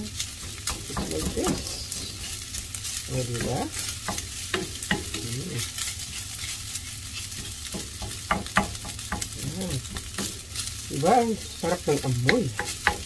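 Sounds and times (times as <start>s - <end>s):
rice sizzling in a frying pan: 0.0s - 13.0s
spatula scraping and knocking pan: 0.1s - 13.0s.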